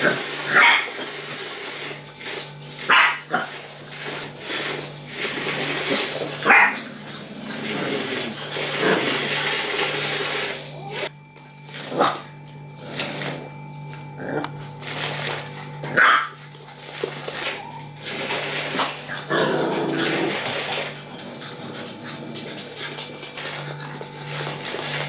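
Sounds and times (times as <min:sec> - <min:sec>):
puppies yapping: 0:00.0 - 0:11.1, 0:15.2 - 0:25.0.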